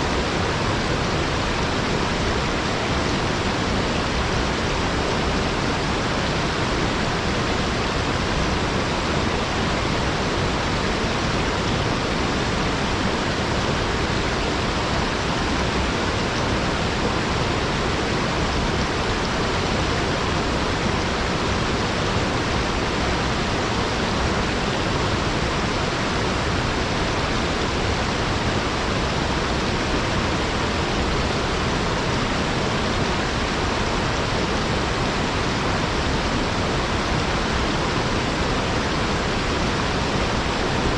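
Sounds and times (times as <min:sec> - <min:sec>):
small waterfall rushing: 0:00.0 - 0:40.9.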